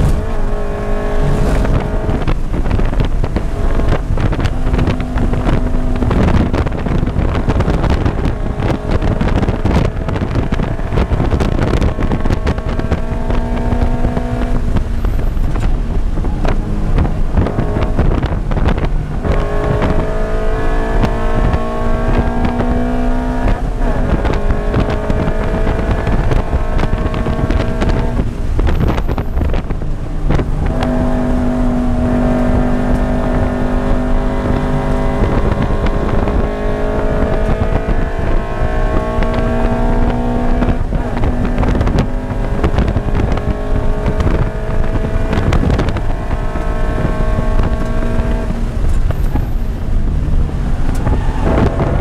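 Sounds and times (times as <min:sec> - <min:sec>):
car engine revving hard: 0:00.0 - 0:52.0
wind and road noise: 0:00.0 - 0:52.0.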